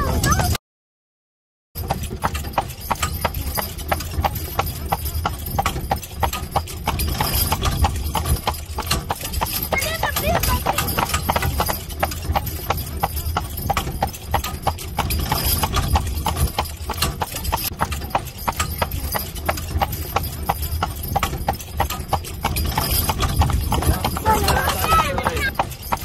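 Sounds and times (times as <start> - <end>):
hooves clip-clopping on pavement: 1.8 - 26.0.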